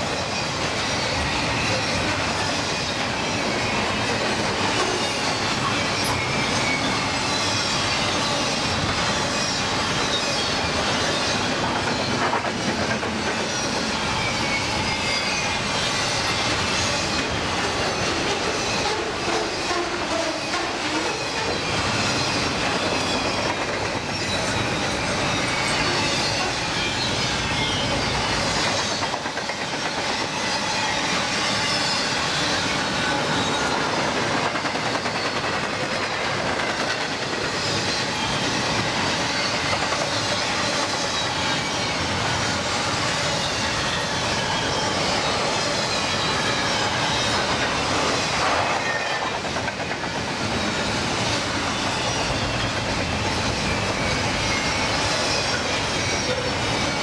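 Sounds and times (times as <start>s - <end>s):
freight train wheels rumbling: 0.0s - 57.0s
wheel squeals: 0.0s - 57.0s.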